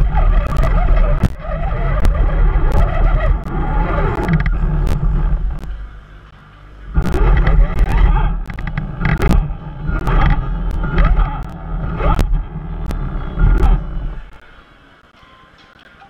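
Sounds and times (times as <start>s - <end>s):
sharp clicks and knocks: 0.0s - 5.9s, 7.0s - 14.5s
wind rumble on microphone: 0.0s - 5.9s, 6.9s - 14.4s
electric motor and gears whining: 0.0s - 15.1s.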